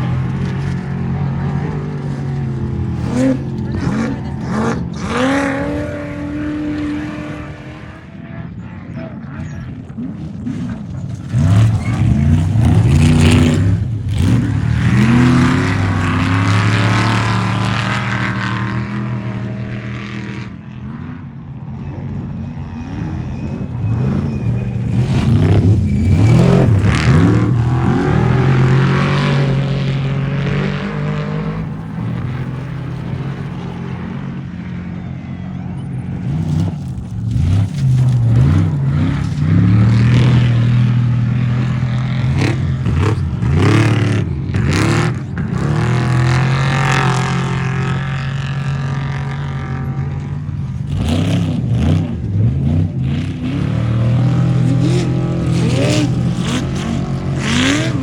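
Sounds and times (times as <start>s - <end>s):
race vehicle engines revving past: 0.0s - 21.3s, 22.0s - 58.0s.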